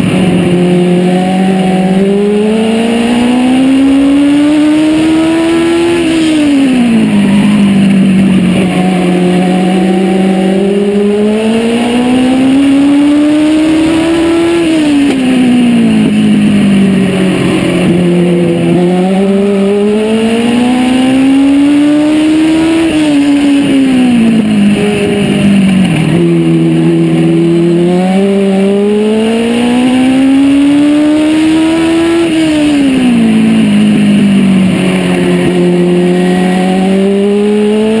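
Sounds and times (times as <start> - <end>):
race car engine running hard: 0.0 - 38.0.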